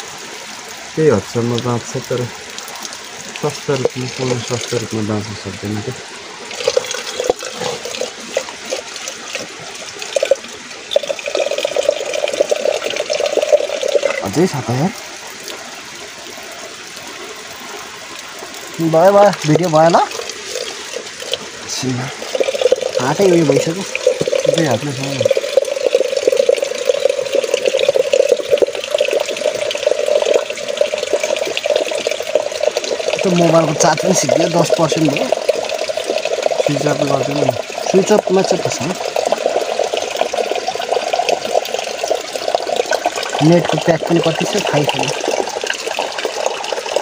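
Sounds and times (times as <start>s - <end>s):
stream water gurgling around pot: 0.0s - 47.0s.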